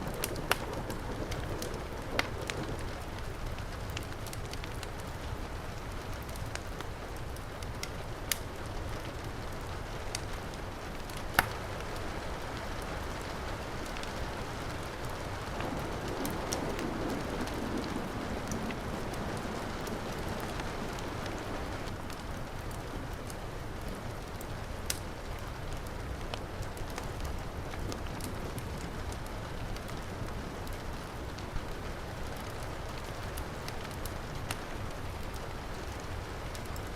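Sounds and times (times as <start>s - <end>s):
heavy rain: 0.0s - 36.9s
wood fire crackling: 0.0s - 36.9s.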